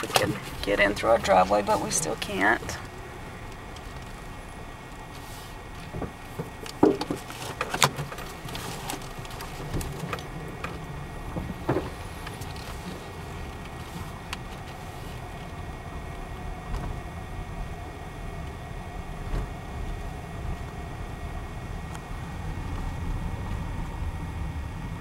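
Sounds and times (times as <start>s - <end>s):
car engine and tyres rumbling: 0.0s - 25.0s.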